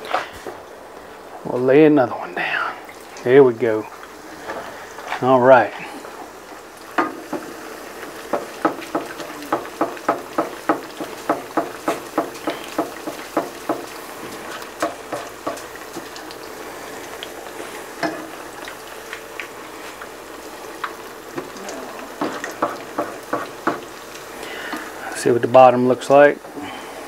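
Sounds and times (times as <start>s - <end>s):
oil sizzling and bubbling: 0.0s - 27.0s
oil popping and crackling: 2.6s - 26.7s.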